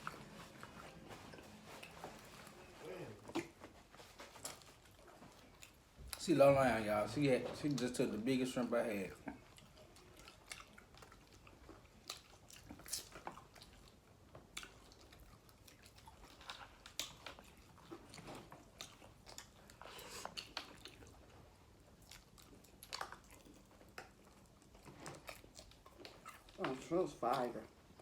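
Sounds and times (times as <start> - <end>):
chewing and biting food: 0.0 - 28.0.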